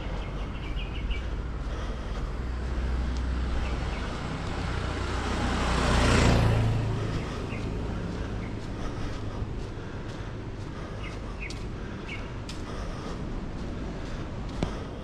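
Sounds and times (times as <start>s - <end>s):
motor scooter passing: 0.0s - 15.0s.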